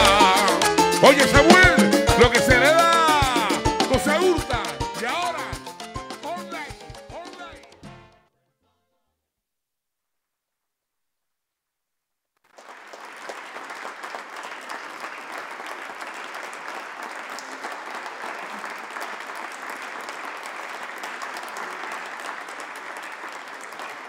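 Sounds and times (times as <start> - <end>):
crowd applauding: 0.0 - 7.8, 12.5 - 24.0.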